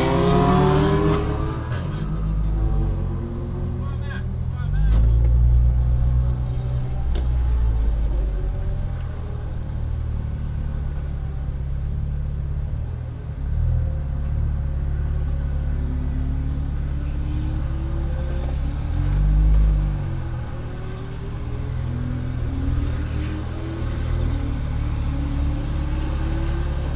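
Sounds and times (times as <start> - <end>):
car engine rumbling and accelerating: 0.0 - 26.9.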